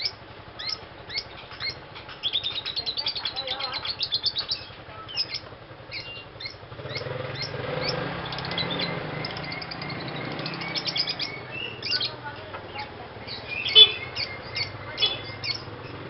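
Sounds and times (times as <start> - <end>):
lovebird chirping: 0.0 - 16.0.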